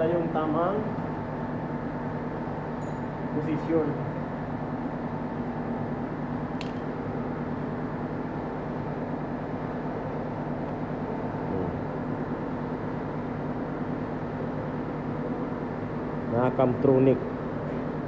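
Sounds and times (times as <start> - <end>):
low machine hum with tones: 0.0 - 18.0.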